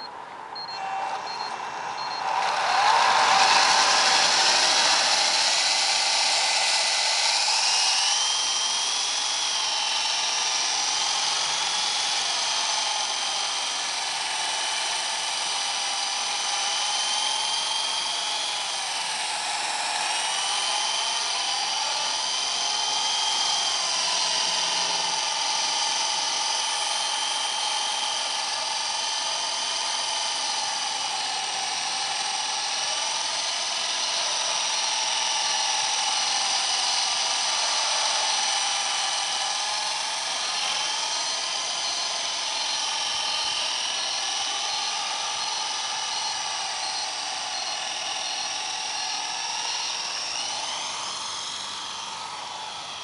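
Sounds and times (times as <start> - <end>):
rc helicopter motor whining: 0.0 - 53.0
rotors whirring: 0.0 - 53.0.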